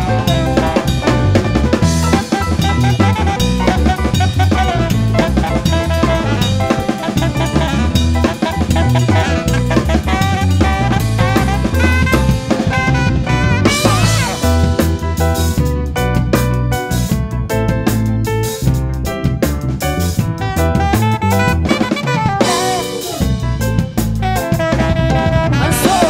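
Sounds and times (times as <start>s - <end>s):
saxophone melody: 0.0s - 16.1s, 19.8s - 26.0s
drum kit: 0.0s - 26.0s
electric bass: 0.0s - 26.0s
electric keyboard: 0.0s - 26.0s.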